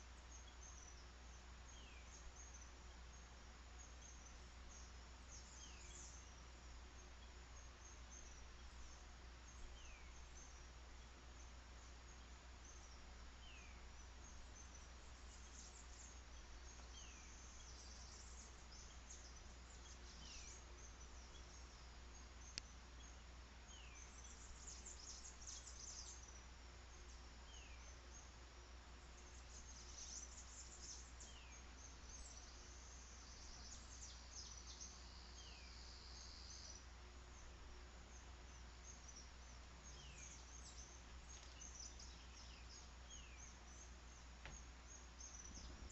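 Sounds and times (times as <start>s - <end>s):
birds and insects chirping: 0.0s - 45.9s.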